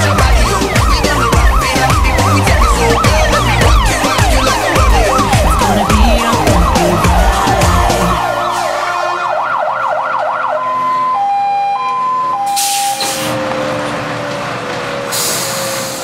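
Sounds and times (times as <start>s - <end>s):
fire engine siren: 0.0s - 16.0s.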